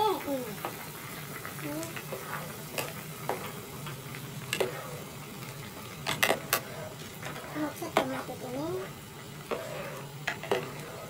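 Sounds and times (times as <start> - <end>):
stew simmering and sloshing: 0.0 - 11.0.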